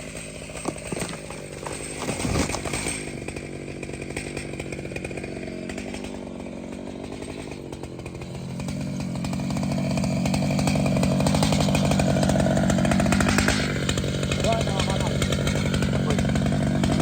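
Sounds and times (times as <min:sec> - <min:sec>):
two-stroke chainsaw running: 0:00.0 - 0:17.0.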